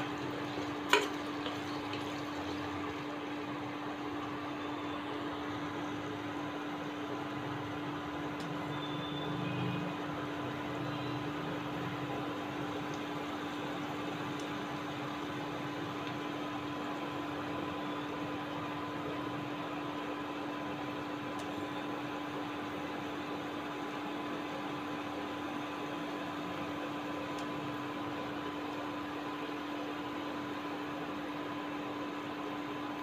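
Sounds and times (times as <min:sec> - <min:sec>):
onions sizzling in oil: 0:00.0 - 0:05.5, 0:10.3 - 0:32.7
steady hum: 0:00.0 - 0:33.0.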